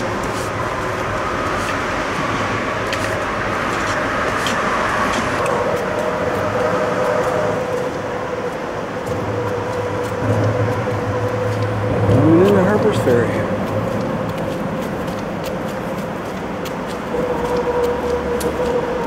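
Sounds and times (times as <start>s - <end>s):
vehicles rumbling over bridge: 0.0s - 19.0s.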